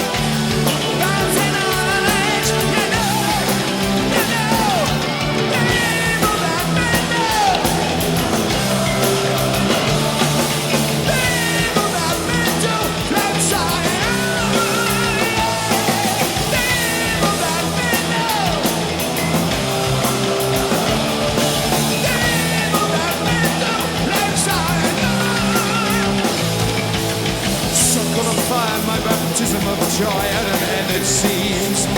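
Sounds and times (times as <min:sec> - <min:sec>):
person shouting and singing: 0:00.0 - 0:26.6
punk rock music: 0:00.0 - 0:31.9.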